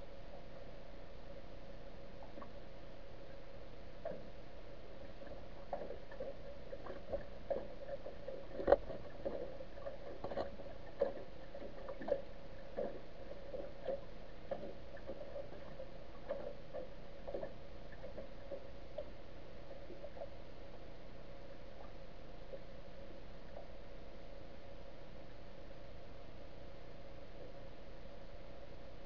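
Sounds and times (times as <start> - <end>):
underwater hum: 0.0 - 29.0
faint underwater clicks: 1.7 - 28.7.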